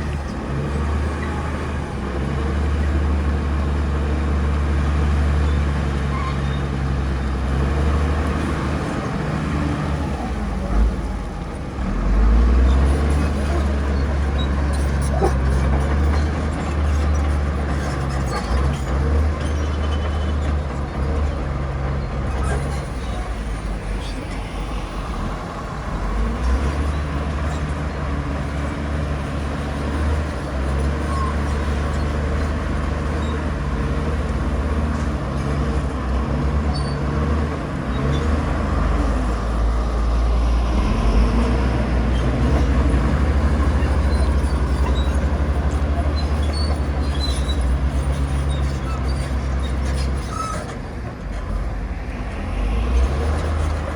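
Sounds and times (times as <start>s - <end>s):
diesel machinery engine drone: 0.0s - 53.9s.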